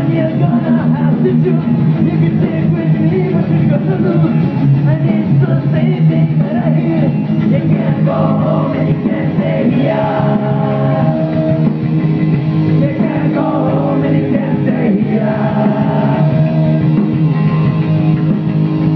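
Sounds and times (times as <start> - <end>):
person singing: 0.0 - 11.8, 12.8 - 17.1
drums: 0.0 - 18.9
electric guitars: 0.0 - 18.9.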